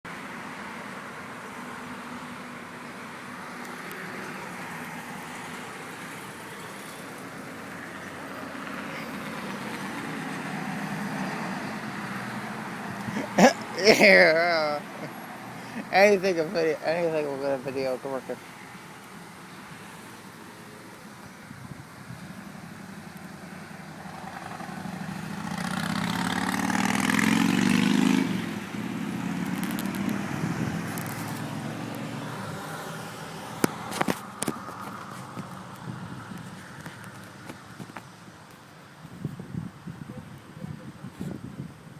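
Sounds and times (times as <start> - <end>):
road vehicle passing by: 0.1 - 38.9.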